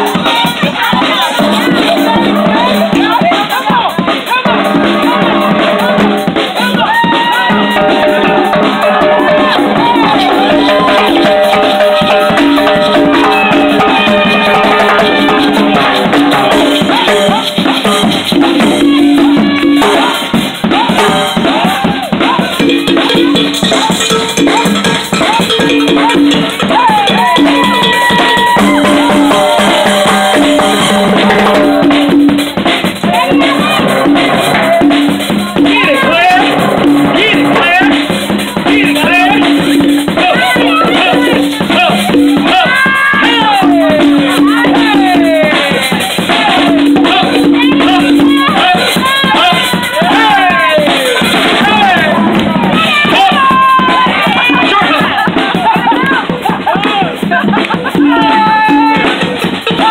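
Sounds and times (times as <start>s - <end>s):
hand drums playing: 0.0s - 59.9s
rattling percussion: 0.0s - 59.9s
voices calling out: 0.0s - 59.9s.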